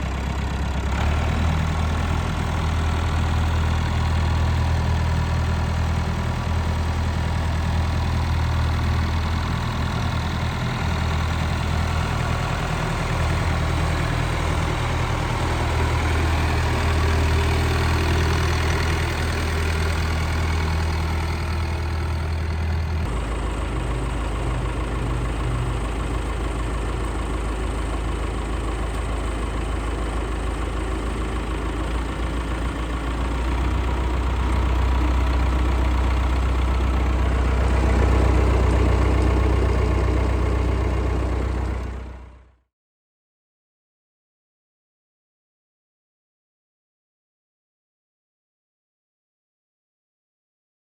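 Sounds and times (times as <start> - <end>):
tractor engine idling: 0.0 - 42.6.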